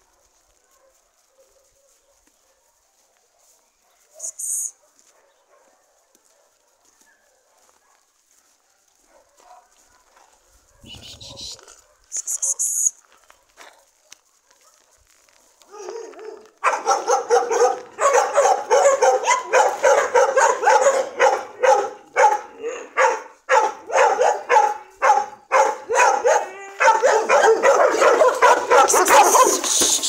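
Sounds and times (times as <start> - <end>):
dogs barking: 0.0 - 12.2, 13.1 - 15.1, 15.7 - 30.0.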